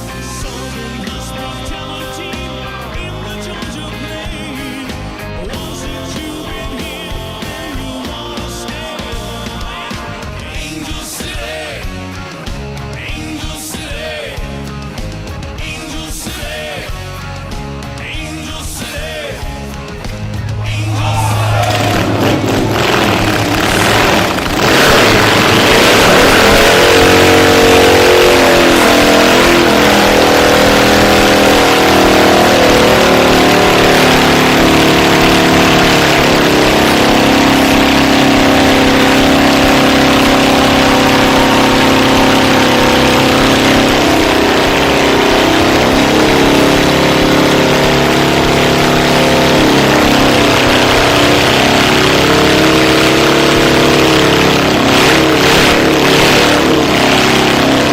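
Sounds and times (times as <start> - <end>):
motorcycle engine revving hard: 0.0 - 57.9.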